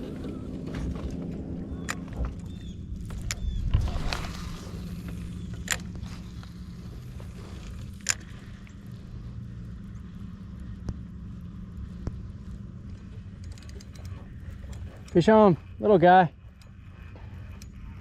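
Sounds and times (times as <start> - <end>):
boat hum: 0.0 - 18.0.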